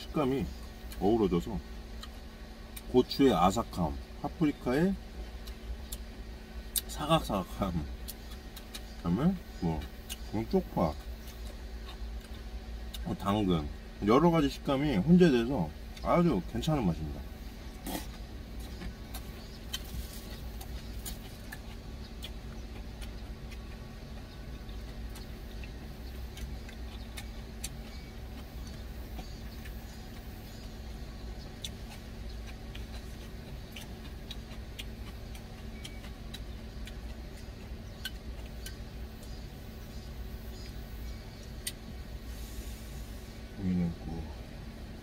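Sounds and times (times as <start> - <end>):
quiet chewing: 0.2 - 45.0.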